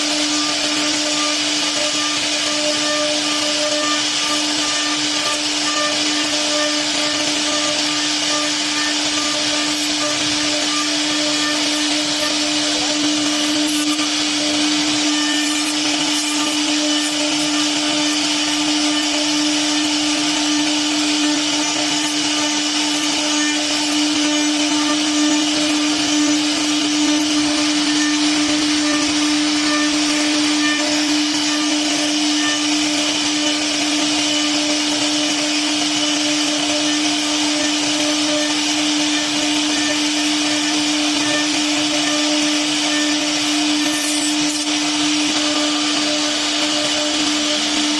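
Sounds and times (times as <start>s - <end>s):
router spindle high hum: 0.0s - 47.9s.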